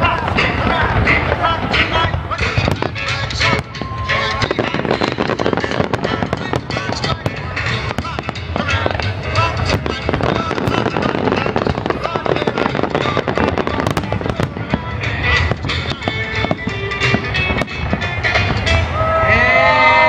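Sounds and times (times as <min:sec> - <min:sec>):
fireworks crackling and banging: 0:00.0 - 0:20.0.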